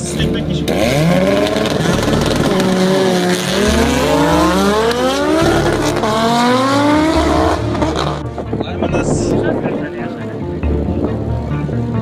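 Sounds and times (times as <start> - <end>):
drag car engines at full throttle: 0.0 - 12.0.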